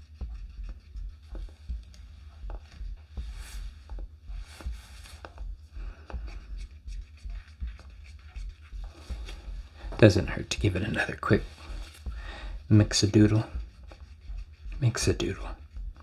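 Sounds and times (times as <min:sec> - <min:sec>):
stir stick tapping and scraping cup: 0:00.0 - 0:16.0.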